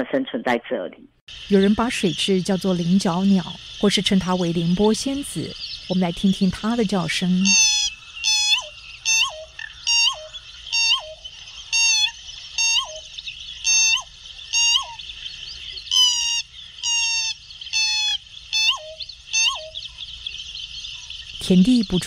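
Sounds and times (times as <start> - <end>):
bird calling: 1.3 - 22.0
steady high hiss: 1.3 - 22.0.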